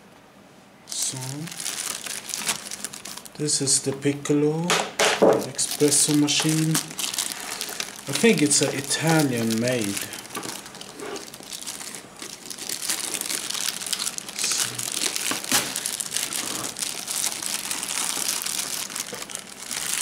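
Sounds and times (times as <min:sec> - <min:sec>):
plastic bag crinkling: 0:00.9 - 0:03.7, 0:05.2 - 0:20.0.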